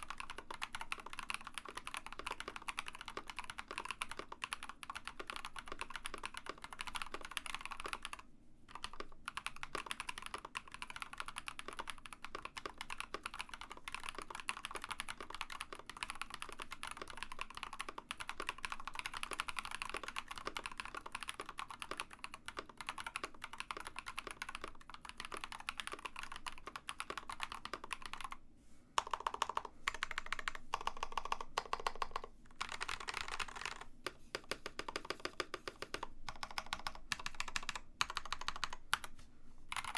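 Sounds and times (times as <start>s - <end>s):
mechanical keyboard typing: 0.0s - 28.4s, 29.0s - 39.1s.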